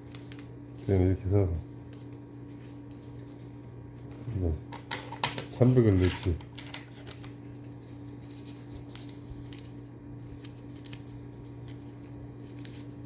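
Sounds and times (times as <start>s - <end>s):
paper banknotes rustling: 0.0s - 4.6s, 5.6s - 13.0s
steady low hum: 0.0s - 13.0s.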